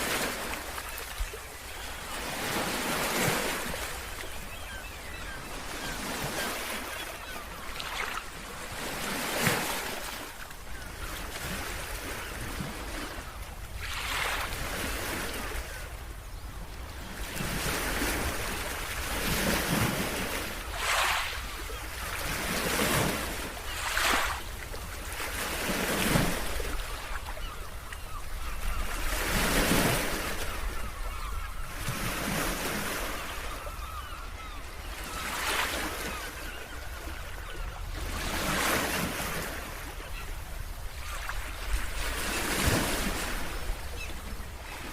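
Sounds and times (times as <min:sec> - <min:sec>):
waves breaking on shore: 0:00.0 - 0:16.0, 0:16.7 - 0:44.9.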